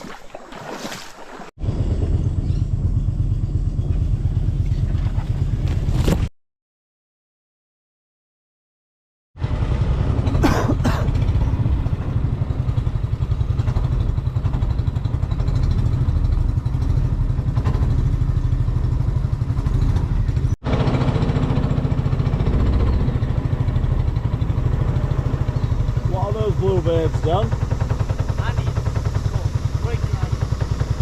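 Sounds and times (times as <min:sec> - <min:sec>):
engine running with low throb: 0:01.6 - 0:06.2, 0:09.4 - 0:31.0.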